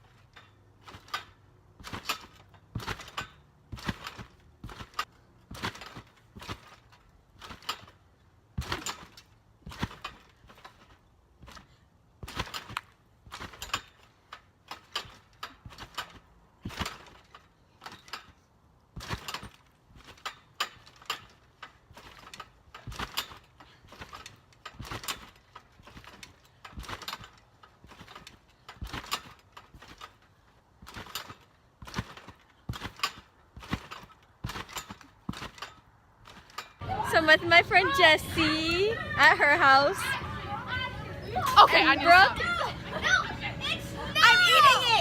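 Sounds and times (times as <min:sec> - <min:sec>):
trampoline mat and spring bounces: 0:00.0 - 0:45.0.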